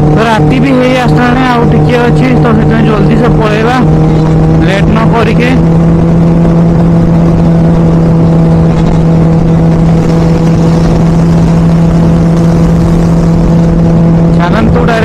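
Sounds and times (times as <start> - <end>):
motorcycle engine droning: 0.0 - 15.0
wind rush over microphone: 0.0 - 15.0.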